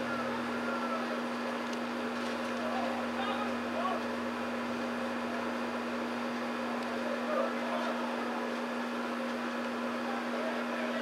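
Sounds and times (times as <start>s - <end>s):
constant hum: 0.0s - 11.0s
distant spectators and players voices: 0.0s - 11.0s.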